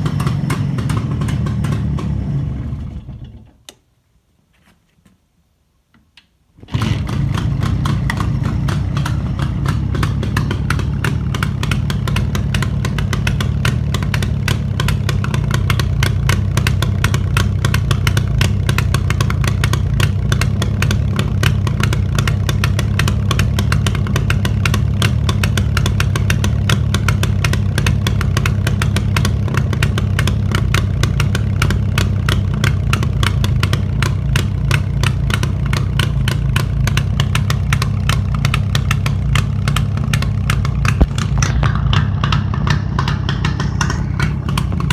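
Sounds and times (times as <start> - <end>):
motorcycle engine fast idle: 0.0 - 3.5, 6.6 - 44.9.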